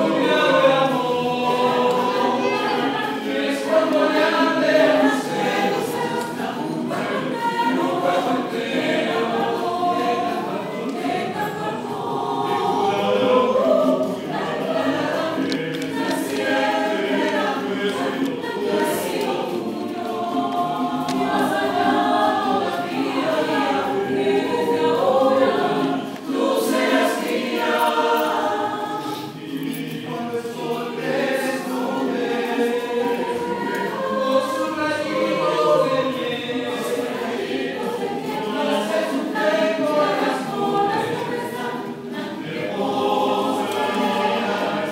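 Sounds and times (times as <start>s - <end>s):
mixed choir singing a cappella: 0.0s - 44.9s.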